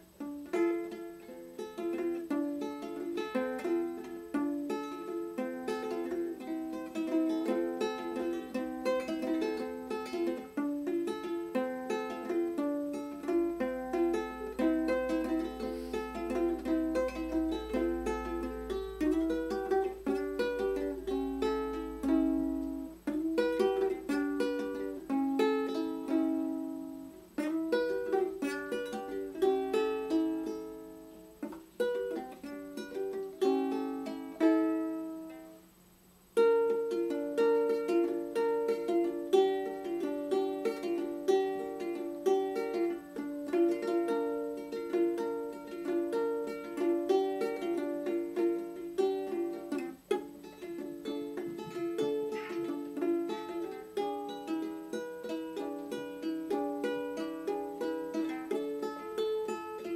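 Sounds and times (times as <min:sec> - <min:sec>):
ukulele melody: 0:00.0 - 0:59.9.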